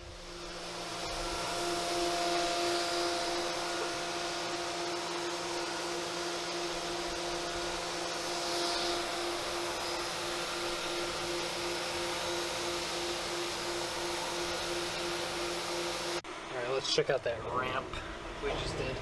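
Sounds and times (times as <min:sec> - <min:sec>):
continuous rushing hiss: 0:00.0 - 0:19.0
milling machine whine: 0:00.0 - 0:19.0.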